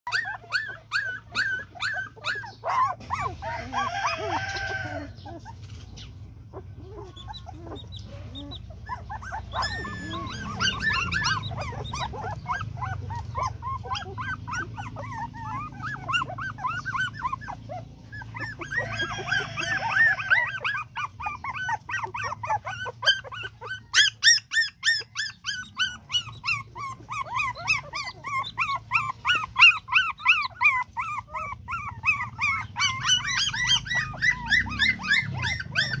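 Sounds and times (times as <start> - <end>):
puppies whimpering: 0.0 - 36.0.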